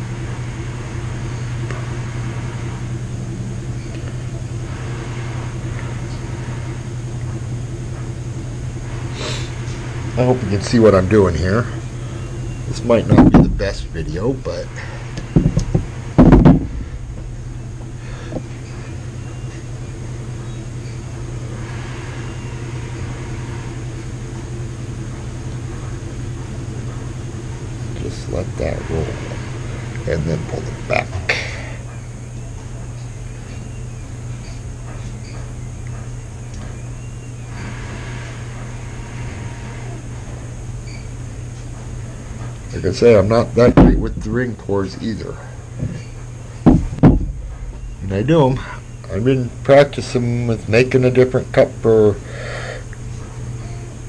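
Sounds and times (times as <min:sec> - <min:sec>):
low machine hum: 0:00.0 - 0:54.0
machine whirring: 0:00.0 - 0:54.0.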